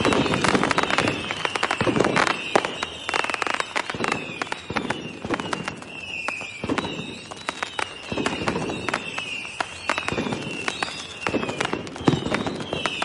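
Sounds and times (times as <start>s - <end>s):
firework whistles sliding down: 0.0s - 13.0s
fireworks crackling and popping: 0.0s - 13.0s
heavy firework bangs: 0.0s - 13.0s.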